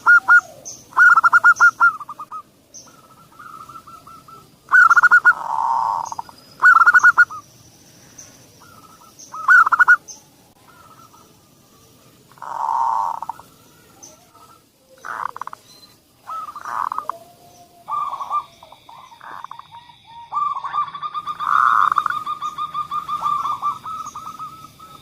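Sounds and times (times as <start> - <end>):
dove cooing: 0.0 - 7.4, 8.6 - 11.4, 12.3 - 15.6, 16.2 - 25.0.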